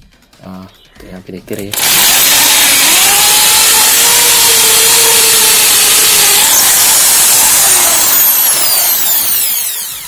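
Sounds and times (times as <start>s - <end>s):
electric drill grinding into wall: 1.7s - 10.0s.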